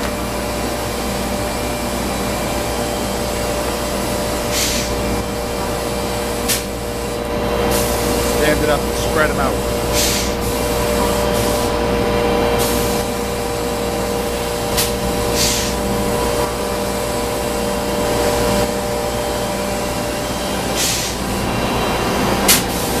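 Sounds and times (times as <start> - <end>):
shop machinery hum: 0.0 - 23.0.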